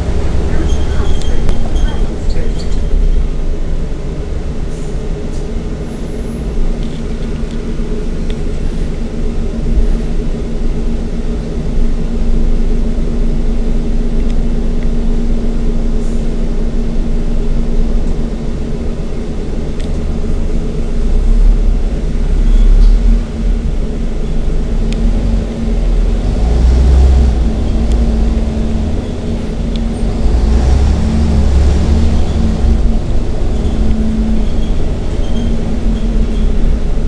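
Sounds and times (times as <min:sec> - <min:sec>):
bus diesel engine running: 0:00.0 - 0:37.0
low road rumble: 0:00.0 - 0:37.0.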